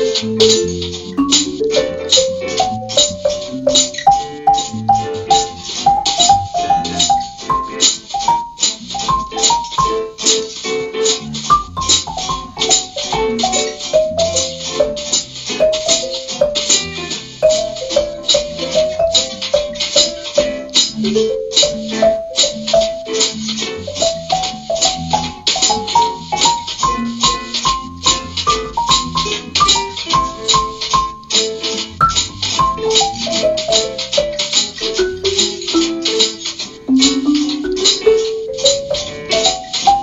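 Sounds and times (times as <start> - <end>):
marimba melody: 0.0 - 10.2, 11.5 - 23.2, 23.9 - 31.2, 32.0 - 40.0
swing jazz combo: 0.0 - 40.0.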